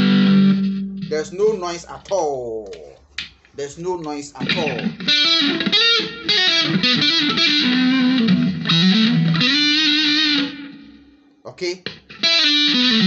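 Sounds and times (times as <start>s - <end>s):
distorted electric guitar: 0.0s - 3.3s, 4.0s - 13.0s.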